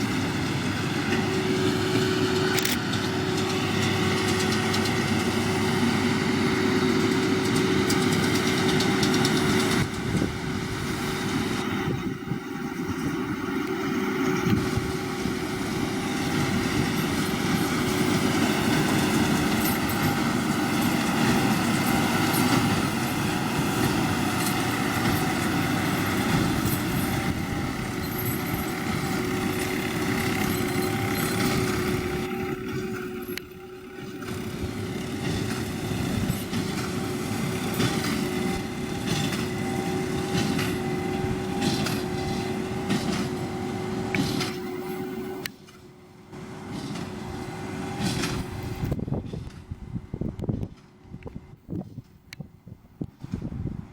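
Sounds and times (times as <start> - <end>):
tractor and baler running: 0.0 - 53.9.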